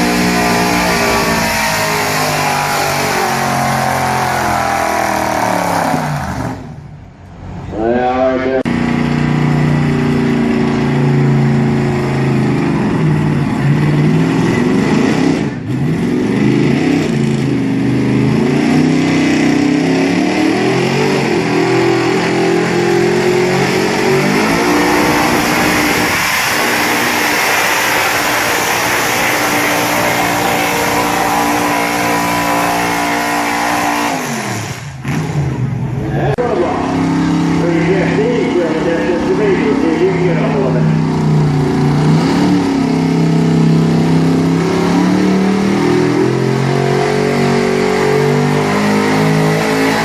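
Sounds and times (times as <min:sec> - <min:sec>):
truck engine revving under load: 0:00.0 - 0:07.6, 0:08.7 - 0:50.0.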